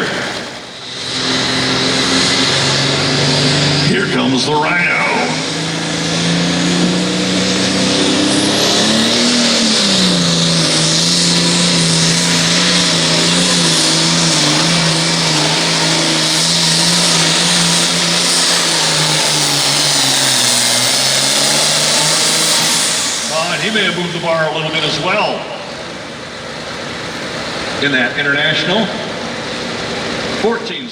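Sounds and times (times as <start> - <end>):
tractor diesel engine at full throttle: 0.0 - 30.9.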